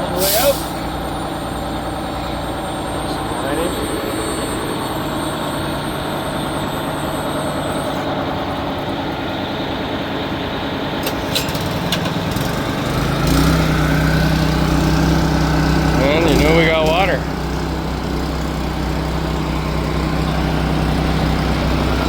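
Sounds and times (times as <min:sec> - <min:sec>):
fire truck engine idling: 0:00.0 - 0:22.0.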